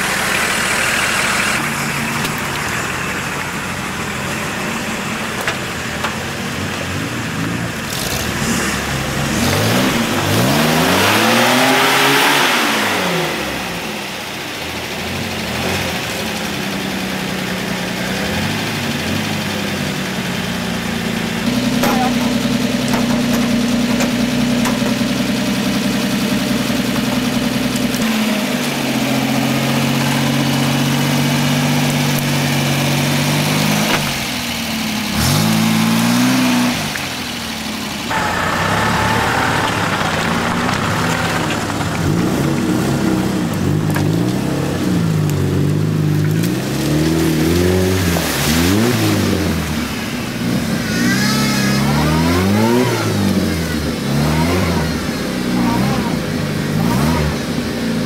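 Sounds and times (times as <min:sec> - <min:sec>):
engine revving: 0:00.0 - 0:58.0.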